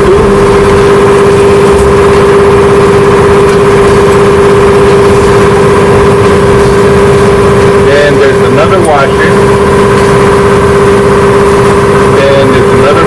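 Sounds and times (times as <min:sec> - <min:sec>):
motor drone: 0:00.0 - 0:13.0.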